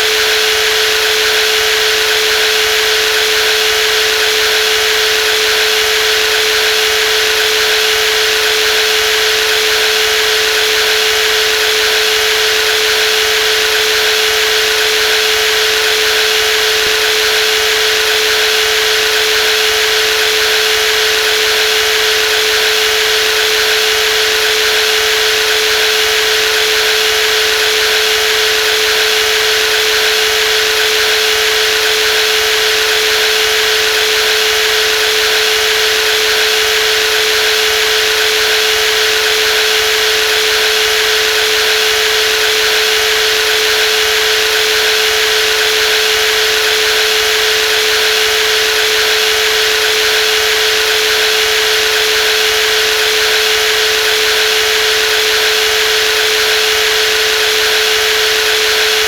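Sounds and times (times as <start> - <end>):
jigsaw motor whine: 0.0 - 59.0.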